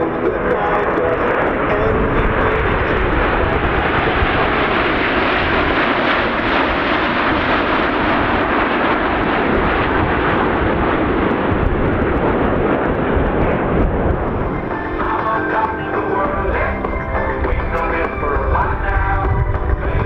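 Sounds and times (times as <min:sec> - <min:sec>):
jets flying overhead: 0:00.0 - 0:20.0.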